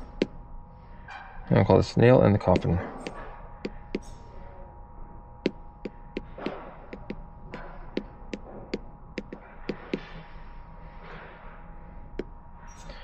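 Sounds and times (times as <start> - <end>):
faint electronic hum: 0.0 - 13.0.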